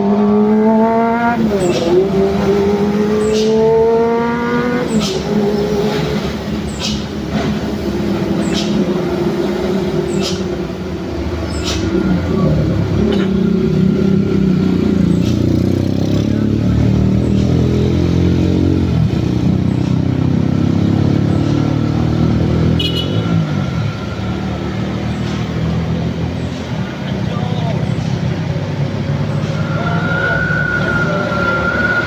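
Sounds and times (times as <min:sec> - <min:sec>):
heavy vehicle engine labouring: 0:00.0 - 0:32.0.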